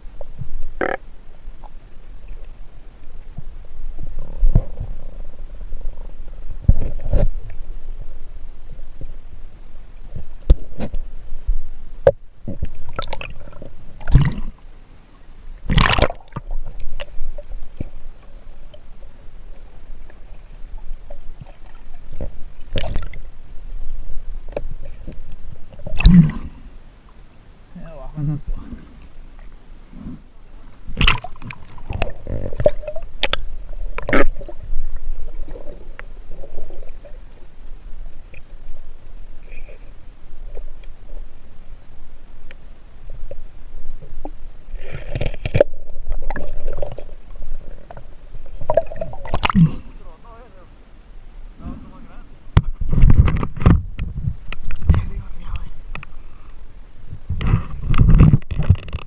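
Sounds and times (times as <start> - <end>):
underwater water movement: 0.0 - 27.7, 28.3 - 59.0.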